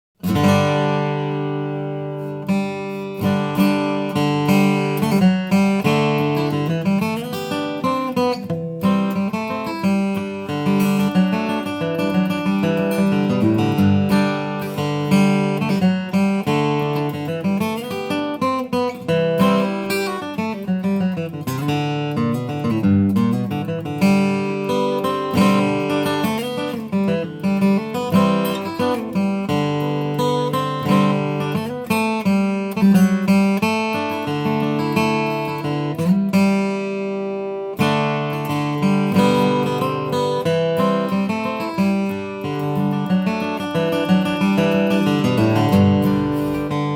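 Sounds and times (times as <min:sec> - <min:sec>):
acoustic guitar picked and strummed: 0:00.2 - 0:46.9.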